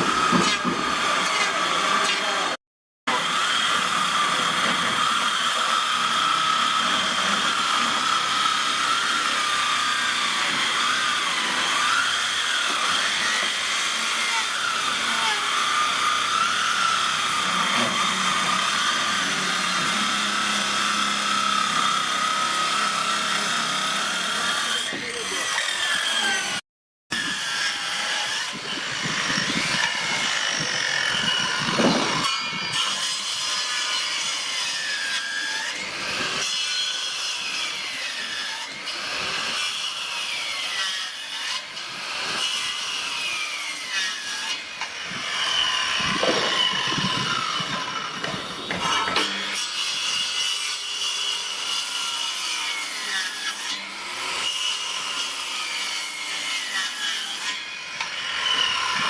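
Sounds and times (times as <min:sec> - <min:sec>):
power tool cutting wood: 0:00.0 - 0:59.0.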